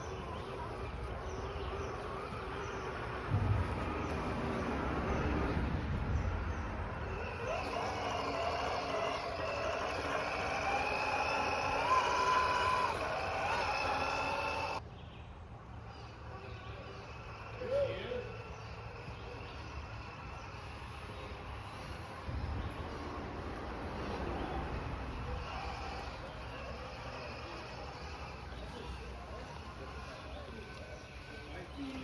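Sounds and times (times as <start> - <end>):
toy car electric motor whining: 0.0 - 14.8, 15.9 - 32.0.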